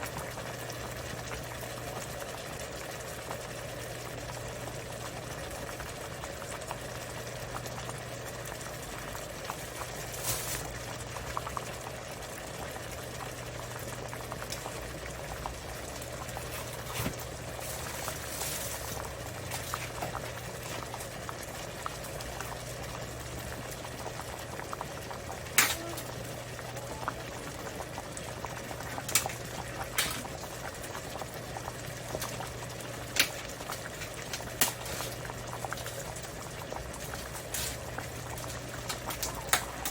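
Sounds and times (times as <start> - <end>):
stew bubbling: 0.0 - 39.9.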